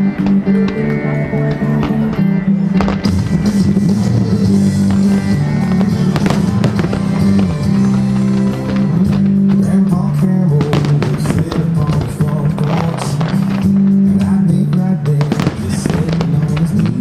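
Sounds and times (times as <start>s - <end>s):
fireworks bangs: 0.0s - 17.0s
music with long low notes: 0.0s - 17.0s.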